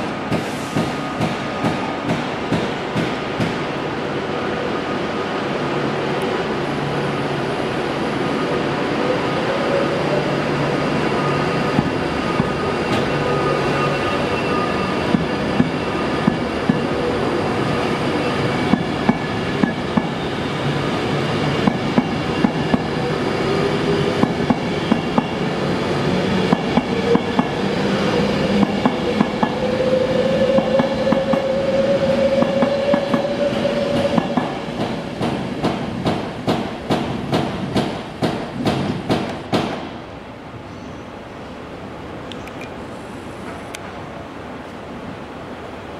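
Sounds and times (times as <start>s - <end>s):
electric train rumble and whine: 0.0s - 45.9s.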